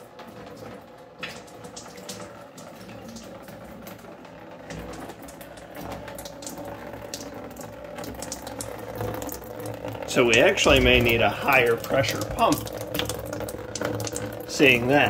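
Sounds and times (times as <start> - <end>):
fountain pump humming: 0.0 - 15.0
water trickling and splashing: 0.0 - 15.0.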